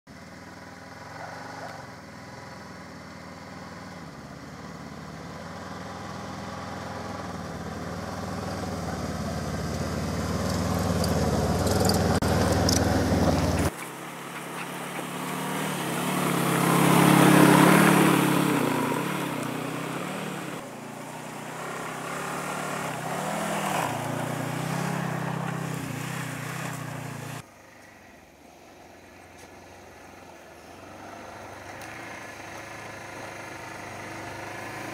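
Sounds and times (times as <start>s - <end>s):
snowmobile engine passing by: 0.2s - 34.9s.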